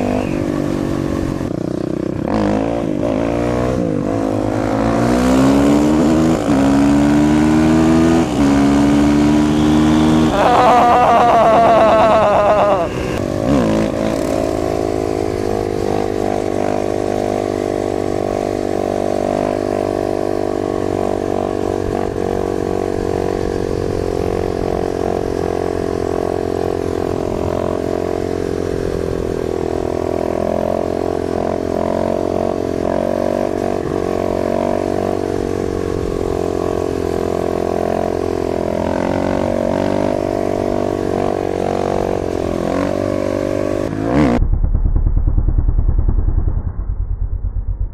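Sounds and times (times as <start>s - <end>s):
dirt bike engine running: 0.0s - 19.8s, 28.5s - 47.9s.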